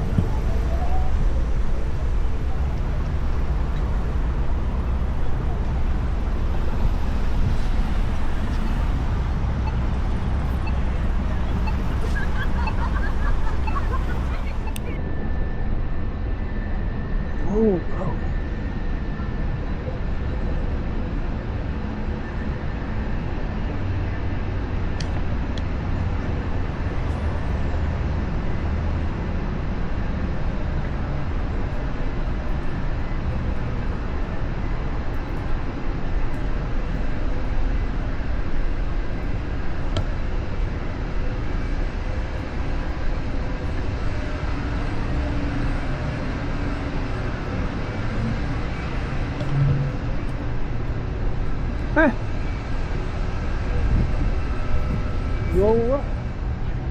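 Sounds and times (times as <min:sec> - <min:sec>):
low rumble of wind: 0:00.0 - 0:56.9
road noise: 0:00.0 - 0:56.9.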